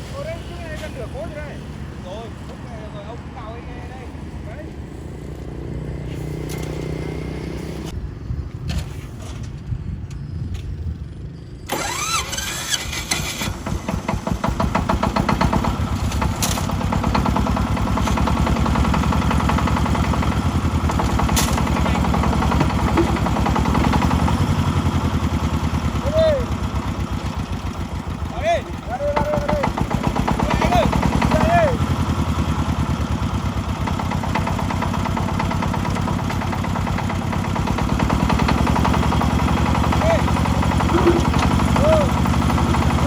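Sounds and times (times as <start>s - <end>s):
diesel engine chugging: 0.0s - 8.0s, 10.2s - 43.0s.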